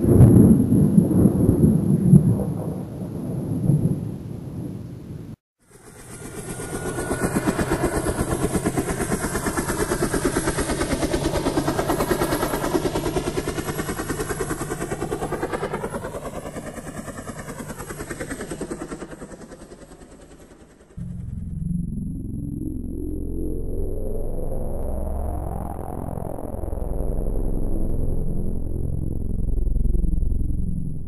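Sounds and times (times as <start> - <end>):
helicopter rotor chopping: 5.6 - 31.0.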